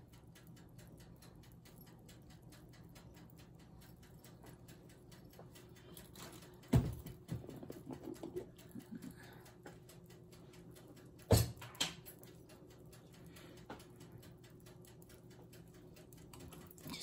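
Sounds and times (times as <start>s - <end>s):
faint even ticking: 0.0s - 7.8s, 8.4s - 11.3s, 12.0s - 17.0s
small knocks and clicks: 0.0s - 17.0s.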